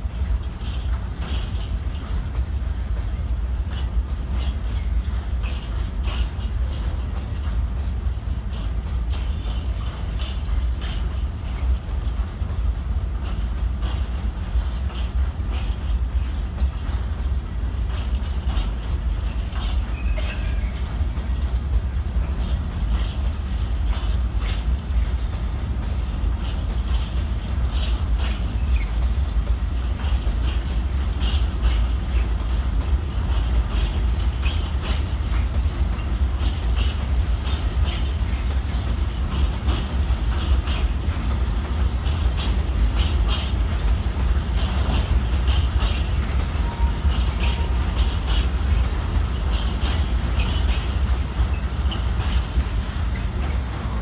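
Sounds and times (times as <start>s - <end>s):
freight train rumbling: 0.0s - 54.0s
wheels clattering over rail joints: 0.0s - 54.0s.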